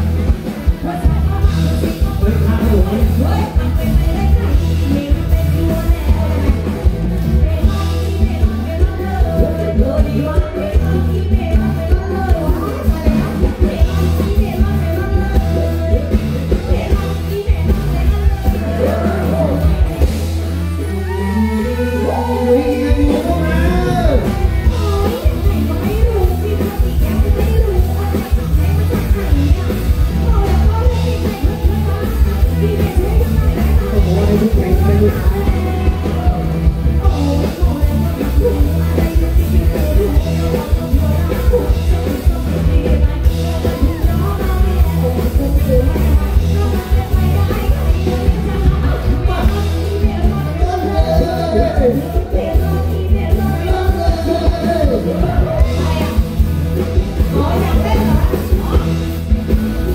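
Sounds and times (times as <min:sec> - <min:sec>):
heavy bass: 0:00.0 - 0:59.9
live band with singers: 0:00.0 - 0:59.9
steady drum beat: 0:00.0 - 0:59.9.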